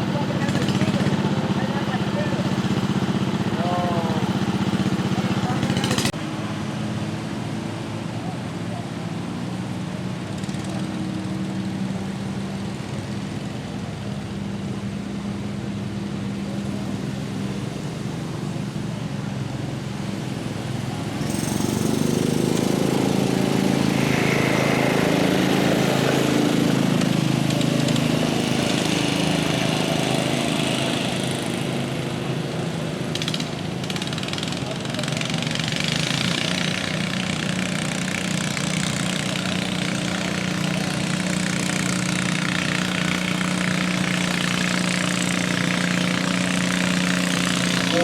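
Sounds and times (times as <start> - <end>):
louder engine running hard: 0.0 - 48.0
small garden tractor engines running: 0.0 - 48.0.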